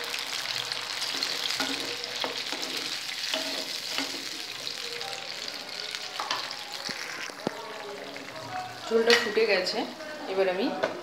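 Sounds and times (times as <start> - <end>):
curry bubbling and sizzling: 0.0 - 10.0.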